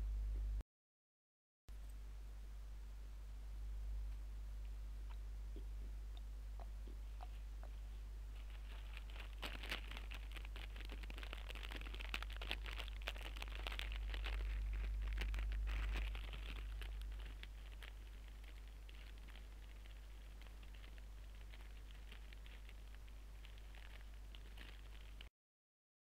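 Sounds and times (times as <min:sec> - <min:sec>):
low electrical hum: 0:00.0 - 0:00.6, 0:01.7 - 0:25.3
crackling rustle of clicks: 0:04.0 - 0:25.3.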